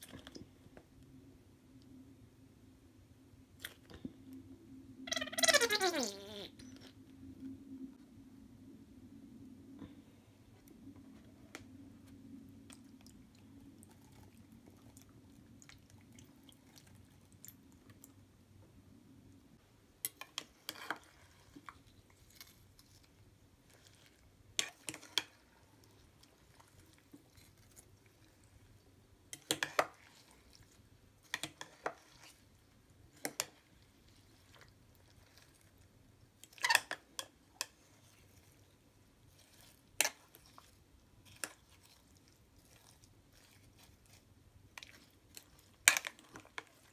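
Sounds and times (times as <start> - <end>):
soft squishes of fruit: 0.0 - 2.0, 3.5 - 4.5, 9.8 - 18.8, 20.1 - 46.9.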